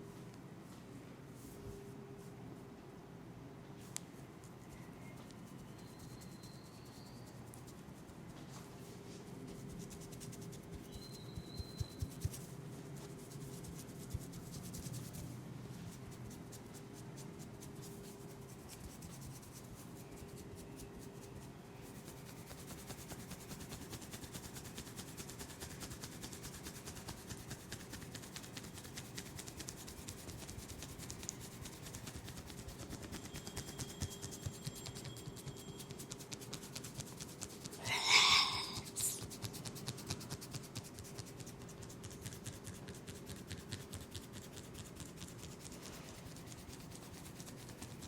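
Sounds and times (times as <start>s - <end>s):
faint steady hum: 0.0s - 48.0s
hands rubbing hair: 3.8s - 48.0s.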